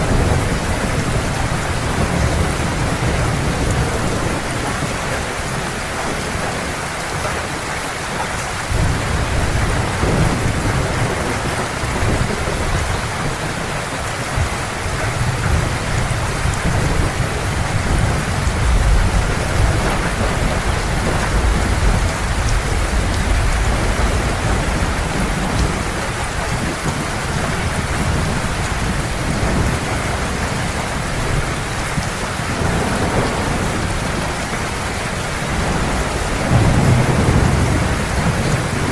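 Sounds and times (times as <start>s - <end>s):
thunder rumbling: 0.0s - 6.9s, 8.6s - 38.9s
heavy rain falling: 0.0s - 38.9s.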